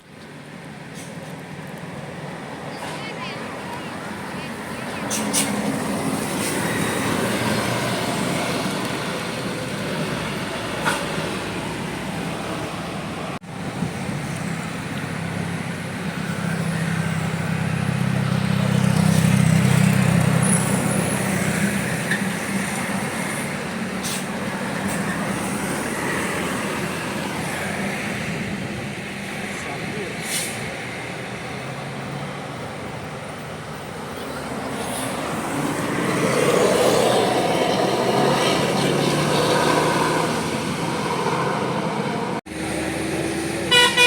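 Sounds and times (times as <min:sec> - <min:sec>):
road traffic: 0:00.0 - 0:44.0
heavy vehicle engine passing: 0:00.8 - 0:44.0.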